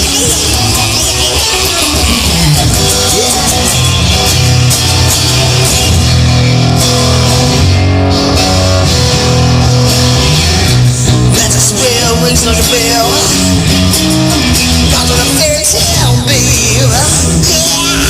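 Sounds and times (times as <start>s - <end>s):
instrumental rock music: 0.0s - 18.0s.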